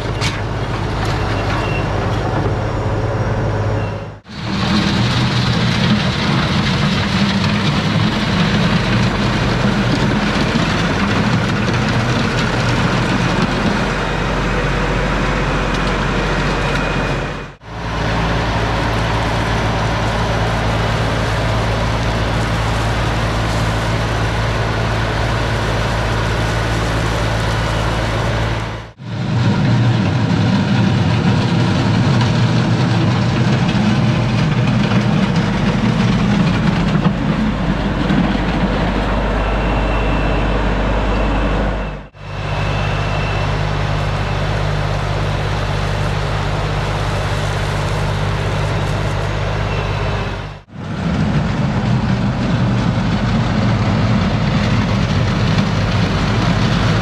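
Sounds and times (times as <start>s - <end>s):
tractor diesel engine humming: 0.0s - 57.0s.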